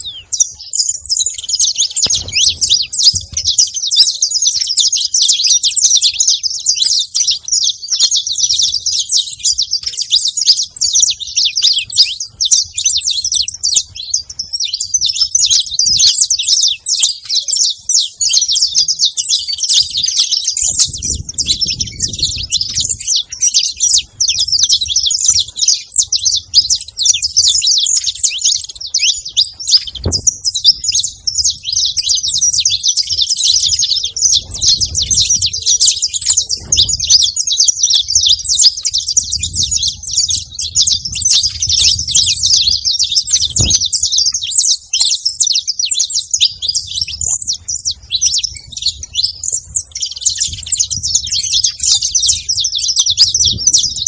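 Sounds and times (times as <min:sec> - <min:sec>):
flock of finches chirping: 0:00.0 - 0:54.0.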